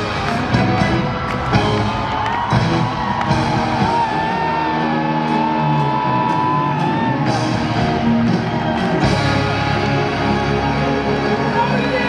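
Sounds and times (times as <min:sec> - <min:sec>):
rock band with orchestra: 0:00.0 - 0:12.0.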